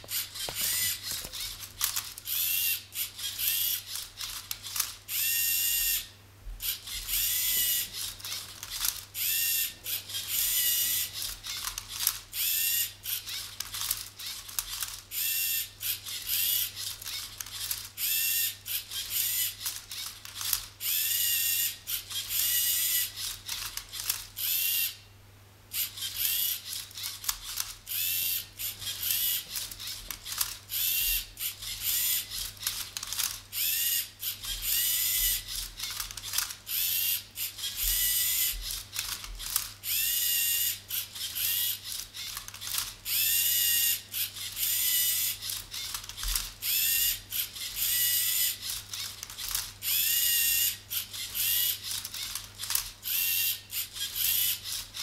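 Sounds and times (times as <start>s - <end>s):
robot motors whirring: 0.0s - 25.0s, 25.7s - 55.0s.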